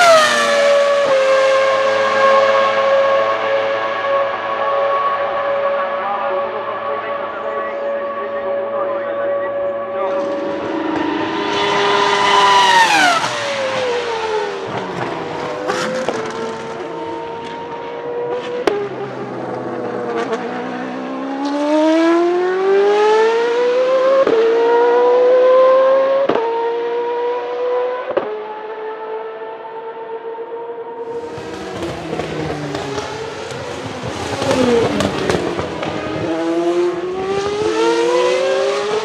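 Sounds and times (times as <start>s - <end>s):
race car engine accelerating with upshifts: 0.0s - 39.0s
racing car passing at high revs: 0.0s - 39.0s.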